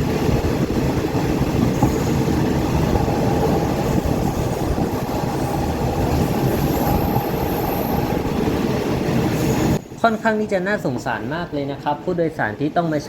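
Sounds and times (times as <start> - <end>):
train rumbling on rails: 0.0 - 11.4.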